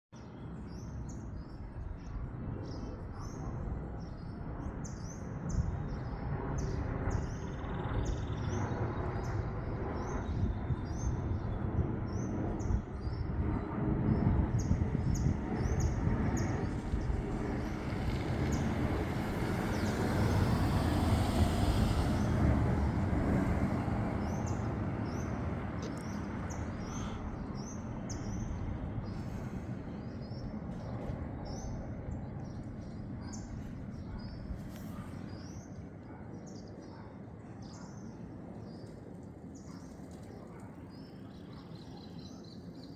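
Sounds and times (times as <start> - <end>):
small birds chirping: 0.2 - 42.9
jet engines rumbling past: 0.4 - 42.9.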